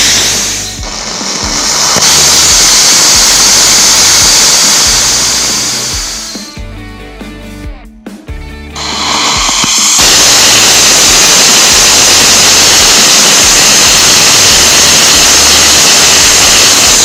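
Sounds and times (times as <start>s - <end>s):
rocket engine exhaust roaring: 0.0s - 6.5s, 8.8s - 17.0s.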